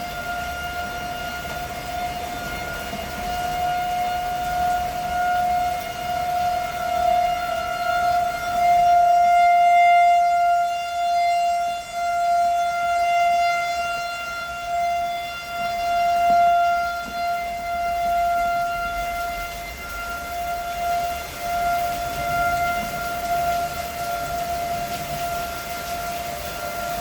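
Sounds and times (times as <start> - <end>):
warning siren steady tone: 0.0 - 27.0.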